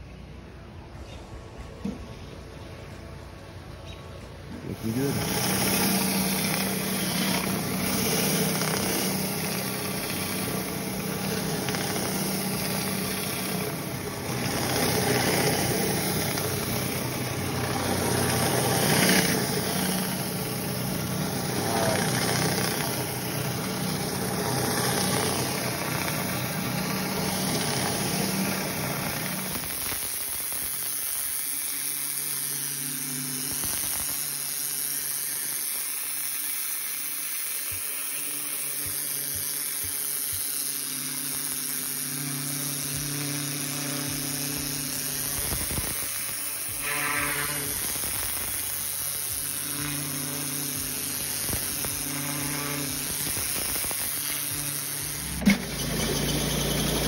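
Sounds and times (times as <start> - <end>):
engine hum: 0.0 - 31.2, 37.7 - 57.0
pressure washer spray hissing: 4.6 - 57.0
surface cleaner on wet tile: 4.6 - 57.0.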